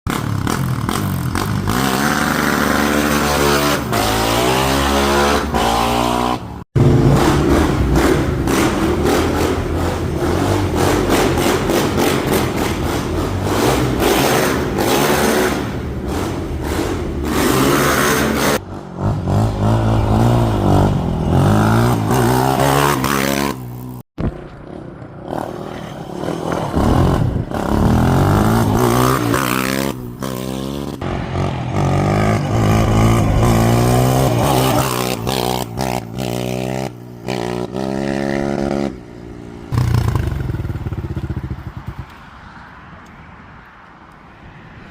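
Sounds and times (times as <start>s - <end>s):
quad engine revving hard: 0.1s - 23.9s, 26.7s - 39.0s.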